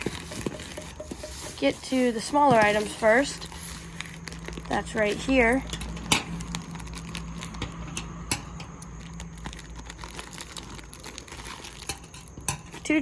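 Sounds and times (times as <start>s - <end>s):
packaging clicks: 0.0s - 12.8s
plastic crinkling: 0.0s - 13.0s.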